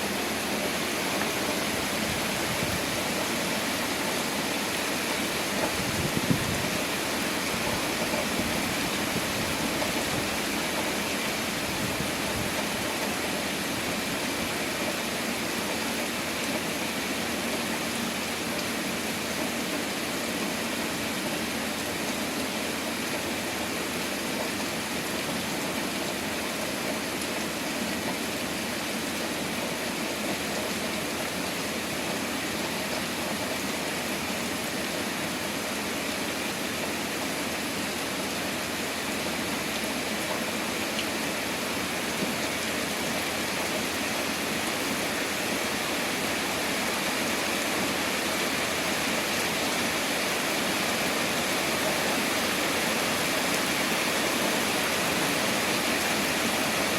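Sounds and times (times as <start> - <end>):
heavy rain downpour: 0.0 - 56.9.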